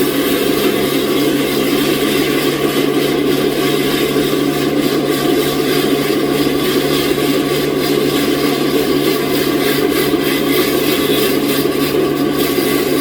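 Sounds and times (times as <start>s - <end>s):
machine hum: 0.0s - 13.0s
sawmill saw cutting log: 0.0s - 13.0s.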